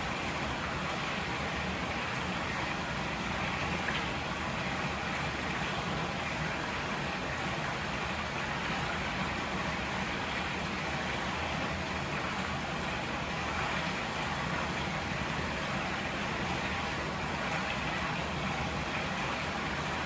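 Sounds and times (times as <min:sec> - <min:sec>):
river water running: 0:00.0 - 0:20.0.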